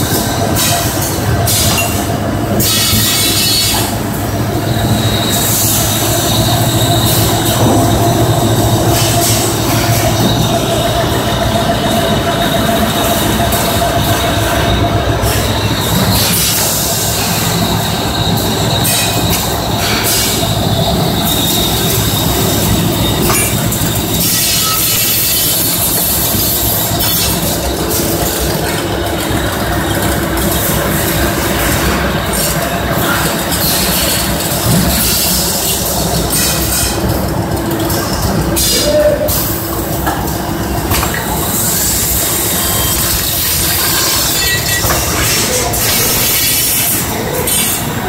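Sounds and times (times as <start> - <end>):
machine mechanical din: 0.0 - 48.0.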